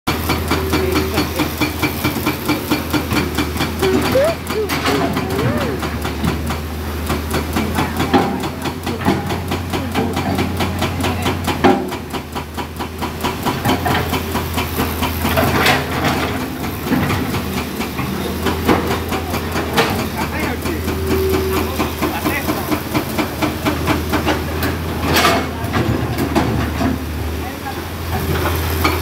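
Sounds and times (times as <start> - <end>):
knocks and clatter: 0.1 - 27.4
diesel engine running: 0.1 - 29.0.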